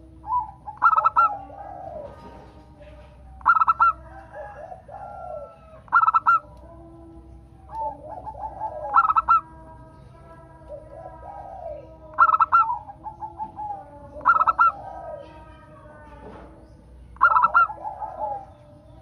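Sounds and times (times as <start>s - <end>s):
dove rippling calls: 0.0s - 19.0s
dove soft rolling coos: 0.0s - 19.0s.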